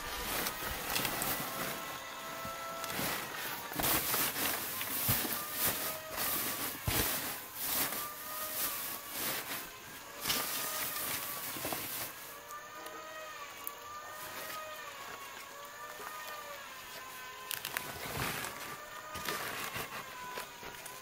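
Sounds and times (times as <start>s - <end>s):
dry grass rustling and crackling: 0.0s - 21.0s
wavering hum: 0.0s - 21.0s.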